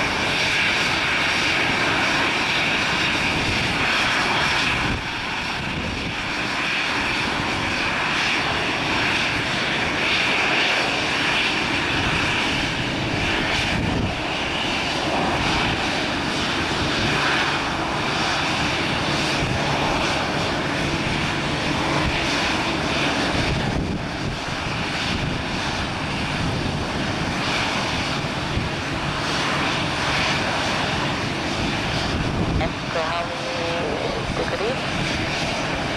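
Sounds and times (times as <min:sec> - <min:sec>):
jet engines whining: 0:00.0 - 0:35.9.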